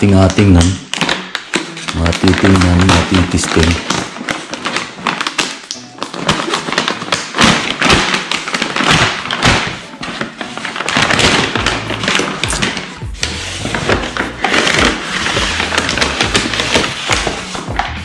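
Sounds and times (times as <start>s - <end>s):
paper bag crinkling: 0.0s - 17.8s.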